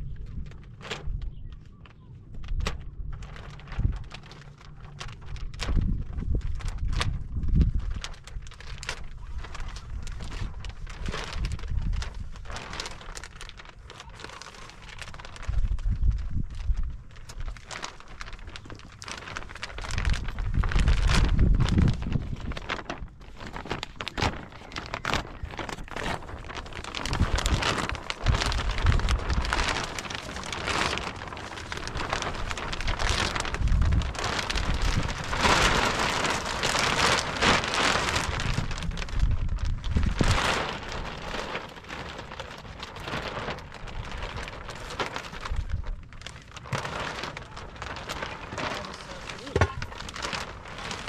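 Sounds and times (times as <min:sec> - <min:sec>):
plastic sheet rustling and crinkling: 0:00.0 - 0:51.0.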